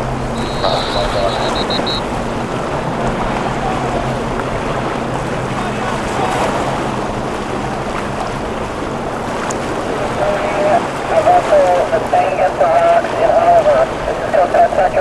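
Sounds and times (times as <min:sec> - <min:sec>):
outboard motor hum: 0:00.0 - 0:15.0
surf washing against rocks: 0:00.0 - 0:15.0
wind on microphone: 0:00.0 - 0:15.0.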